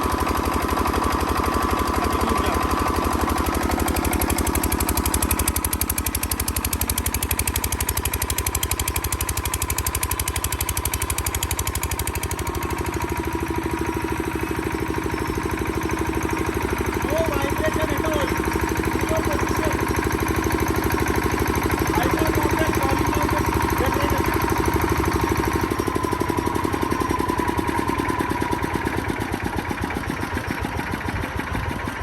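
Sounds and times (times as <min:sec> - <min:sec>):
diesel generator running: 0:00.0 - 0:32.0.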